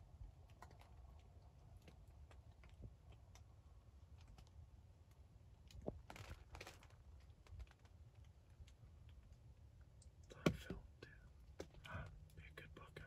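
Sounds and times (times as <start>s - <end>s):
faint small clicks: 0.4s - 3.5s, 4.1s - 12.6s.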